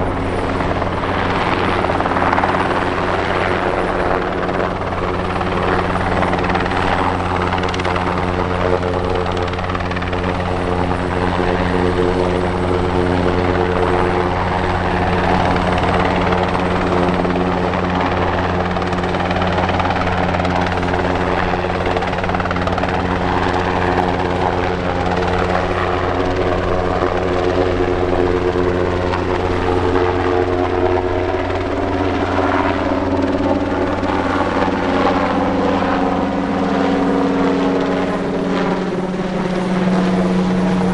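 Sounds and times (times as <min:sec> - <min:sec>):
helicopter rotors and turbines droning: 0:00.0 - 0:40.9.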